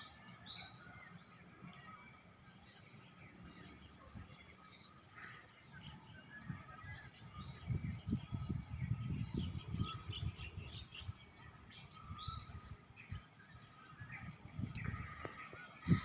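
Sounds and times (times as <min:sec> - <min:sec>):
birds chirping: 0:00.0 - 0:16.0
high insect drone: 0:00.0 - 0:16.0.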